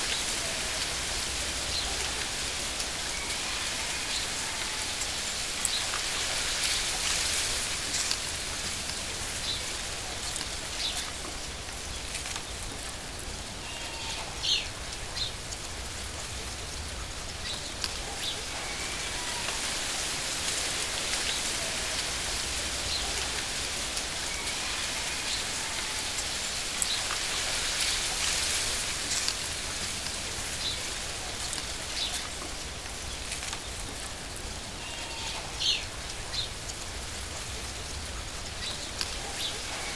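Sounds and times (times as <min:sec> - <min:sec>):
falling water hiss: 0:00.0 - 0:14.1, 0:18.2 - 0:39.9.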